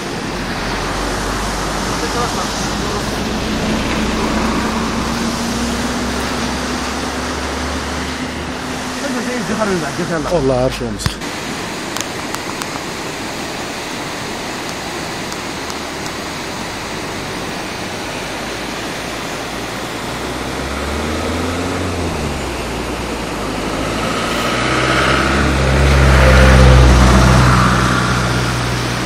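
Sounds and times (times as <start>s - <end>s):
river water rushing: 0.0s - 29.0s
vehicle engine: 0.0s - 29.0s.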